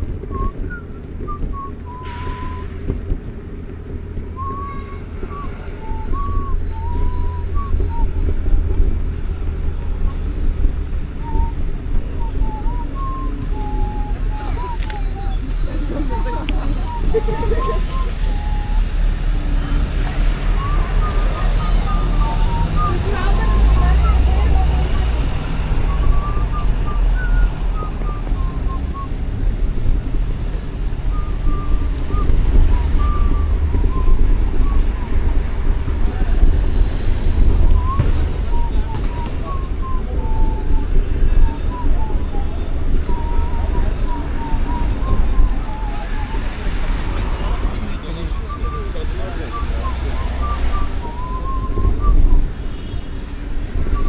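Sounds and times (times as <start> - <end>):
low rumble: 0.0 - 48.8
wind buffeting microphone: 0.0 - 54.0
whistled notes: 0.1 - 3.6, 4.2 - 9.2, 10.0 - 54.0.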